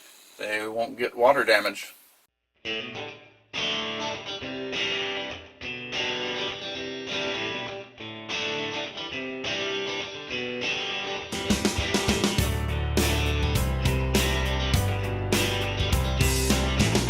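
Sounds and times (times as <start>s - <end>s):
guitar-led background music: 2.6s - 17.0s.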